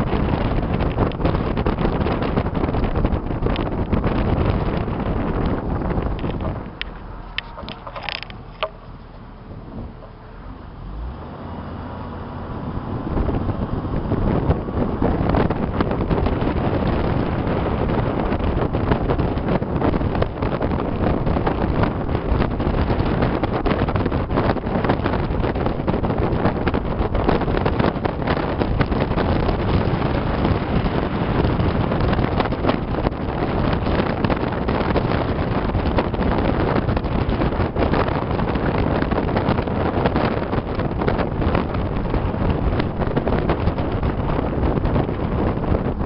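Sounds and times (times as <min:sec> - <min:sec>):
car engine: 0:00.0 - 0:46.0
road noise: 0:00.0 - 0:46.0
wind buffeting microphone: 0:00.0 - 0:46.0.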